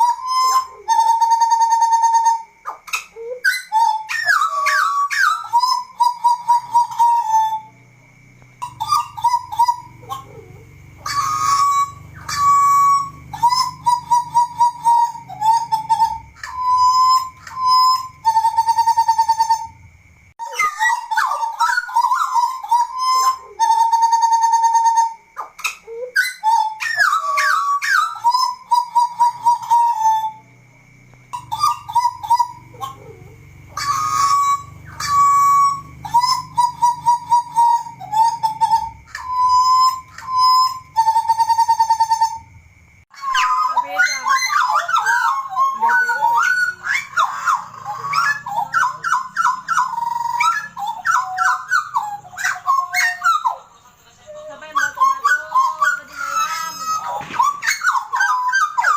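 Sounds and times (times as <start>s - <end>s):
bird singing fluting whistles: 0.0s - 53.8s, 54.4s - 58.9s.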